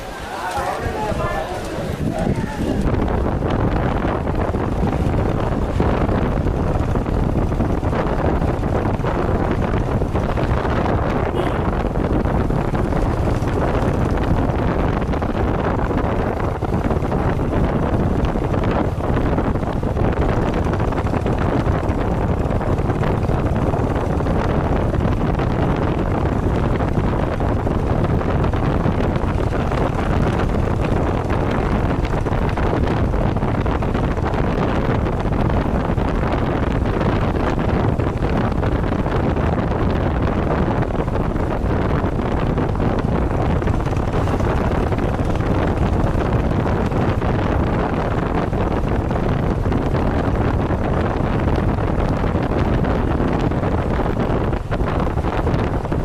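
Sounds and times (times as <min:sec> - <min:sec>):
vehicle rumble: 0:00.0 - 0:56.0
wind buffeting microphone: 0:00.0 - 0:56.0.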